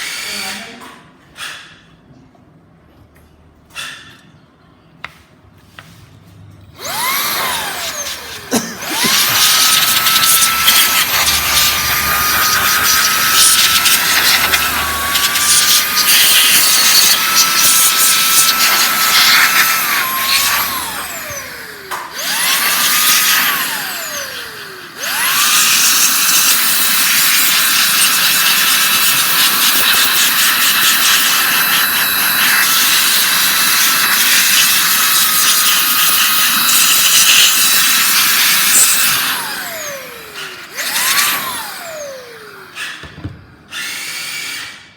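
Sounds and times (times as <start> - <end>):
angle grinder whining: 6.8 - 44.9.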